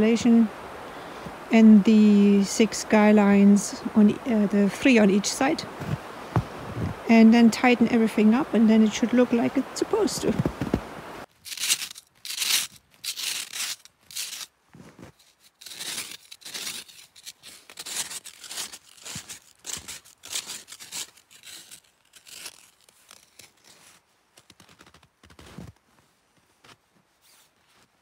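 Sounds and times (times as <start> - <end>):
snow crunching and scraping: 3.4 - 28.0.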